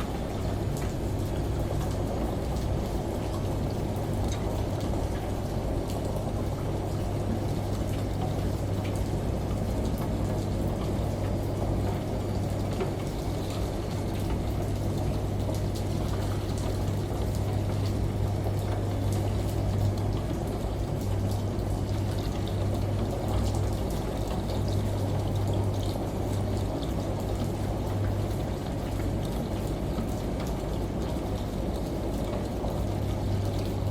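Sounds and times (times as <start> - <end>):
continuous low hum: 0.0 - 33.9
faint drip-like ticks: 0.0 - 33.9.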